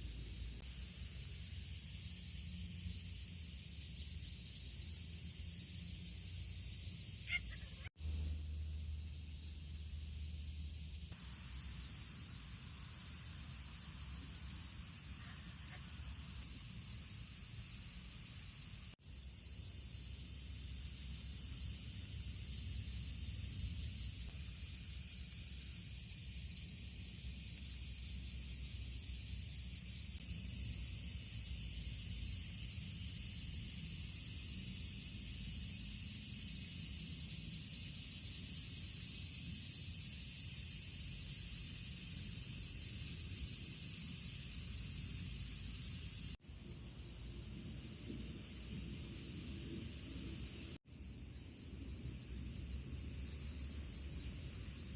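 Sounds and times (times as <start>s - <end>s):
insects chorus: 0.0s - 54.9s.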